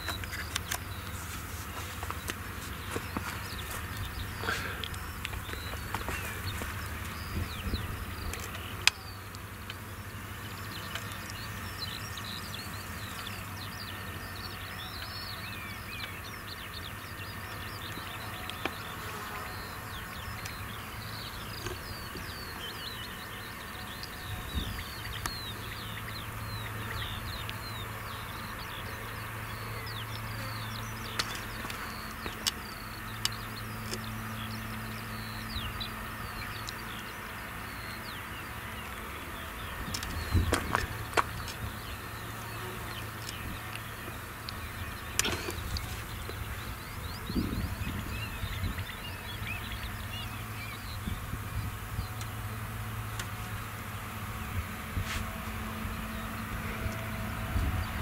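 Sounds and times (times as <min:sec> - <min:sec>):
distant diesel engines droning: 0:00.0 - 0:58.0
small birds chirping: 0:00.0 - 0:58.0.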